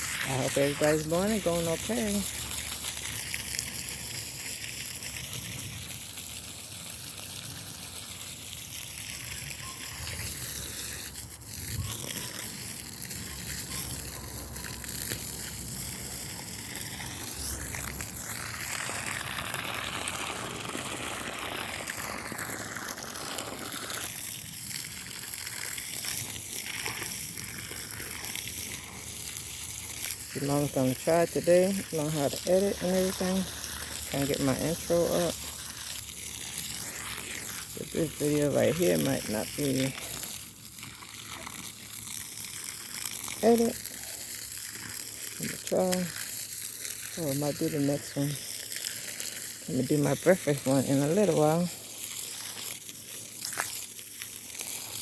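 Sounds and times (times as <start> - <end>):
hose water spraying and splashing: 0.0 - 55.0.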